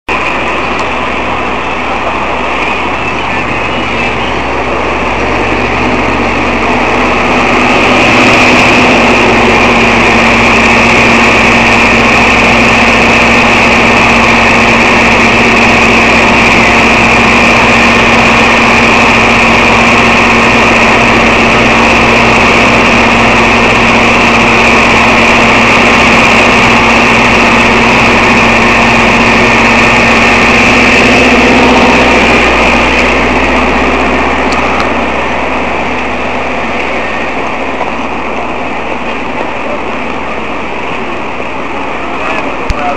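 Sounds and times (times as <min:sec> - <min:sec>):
mechanical drone with hum: 0:00.1 - 0:42.9.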